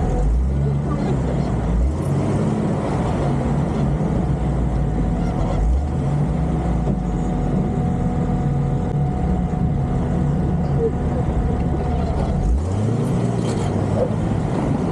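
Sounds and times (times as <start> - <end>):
car engine running at low revs: 0.0 - 14.9.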